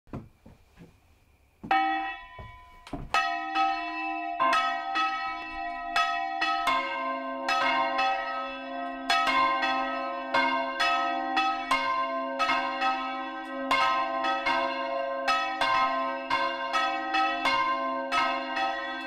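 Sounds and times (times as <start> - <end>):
church bells ringing: 1.7 - 19.0.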